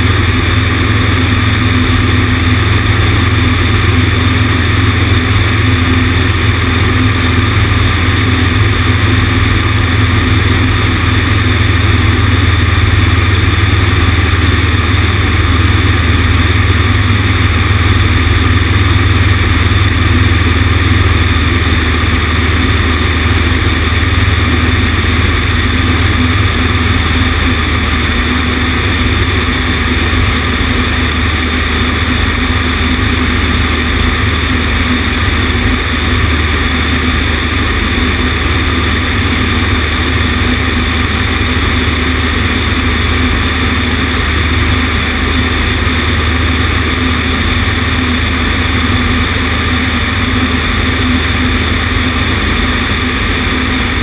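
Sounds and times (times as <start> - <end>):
aircraft engine and propeller drone: 0.0 - 54.0
rushing airflow: 0.0 - 54.0.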